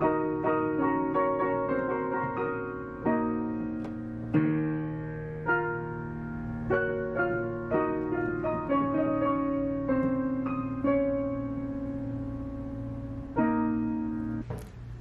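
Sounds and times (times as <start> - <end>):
digital piano chords: 0.0 - 15.0.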